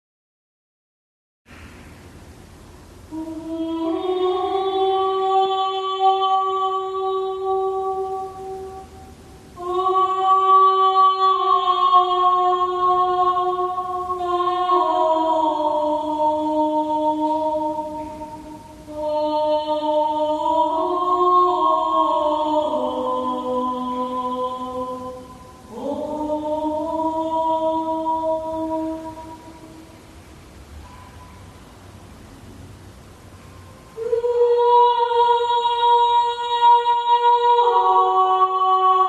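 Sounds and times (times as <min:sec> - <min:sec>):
slow chant-like vocal music: 0:03.0 - 0:30.4, 0:33.8 - 0:39.0.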